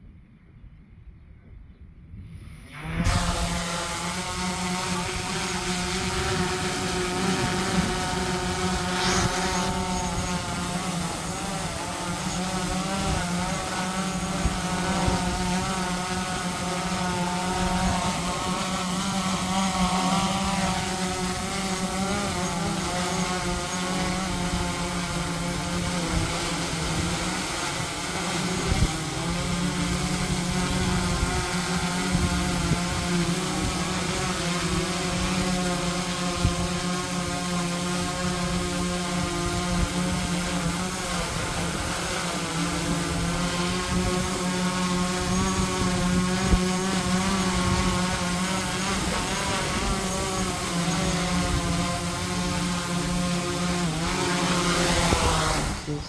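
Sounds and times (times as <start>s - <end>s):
wind buffeting microphone: 0.0s - 56.0s
drone propellers whining: 2.2s - 56.0s.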